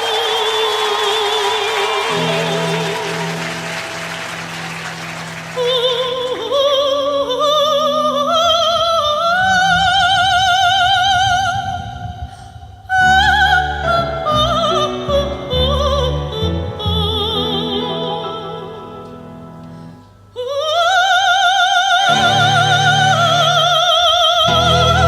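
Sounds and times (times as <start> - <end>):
soprano singing with vibrato: 0.0 - 4.1, 5.6 - 19.3, 20.3 - 25.0.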